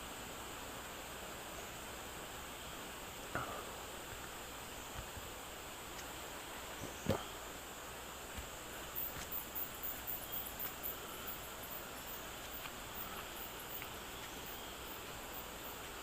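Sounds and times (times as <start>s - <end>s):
insects droning and chirping: 0.0s - 16.0s.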